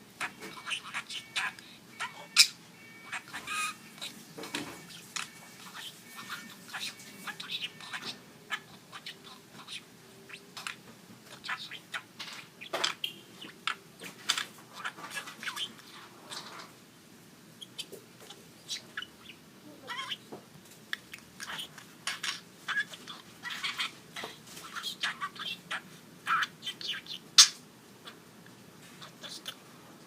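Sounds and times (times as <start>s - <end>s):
talking bird chattering: 0.2s - 16.7s, 17.6s - 20.3s, 20.9s - 28.2s.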